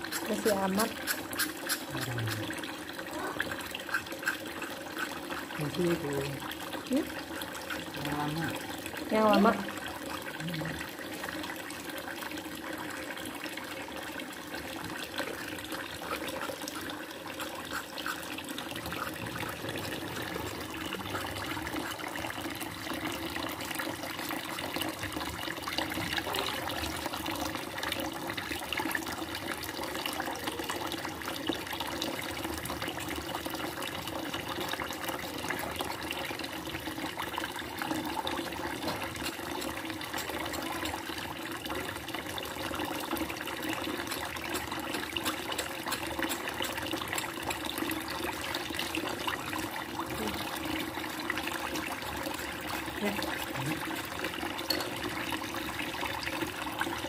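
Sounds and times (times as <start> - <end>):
tap running into basin: 0.0 - 57.0.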